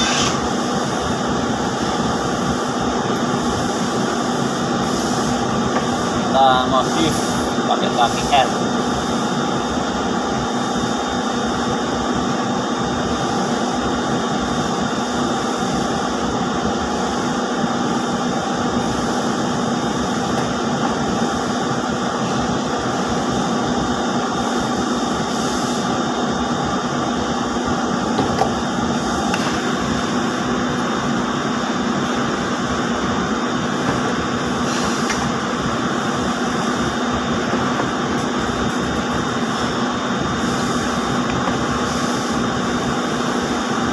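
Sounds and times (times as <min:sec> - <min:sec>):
machinery low hum: 0:00.0 - 0:43.9.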